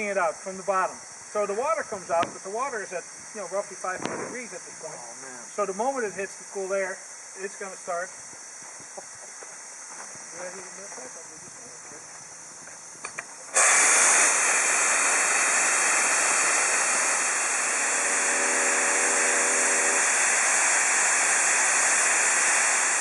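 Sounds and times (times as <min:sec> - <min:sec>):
loud steam hiss: 0:00.0 - 0:23.0.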